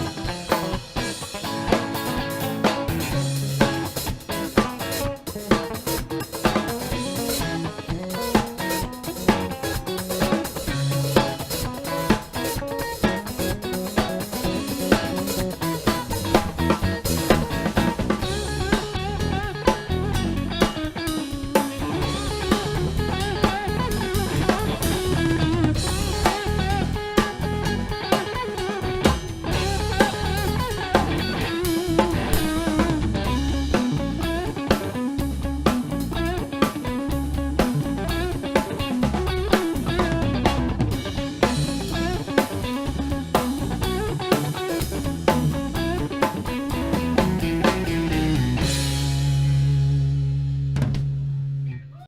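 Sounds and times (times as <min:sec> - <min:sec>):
rock music: 0:00.0 - 0:52.0.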